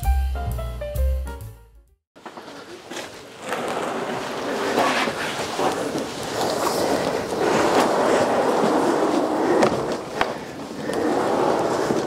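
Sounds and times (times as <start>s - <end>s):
plastic tub scraping on concrete: 2.2s - 12.0s.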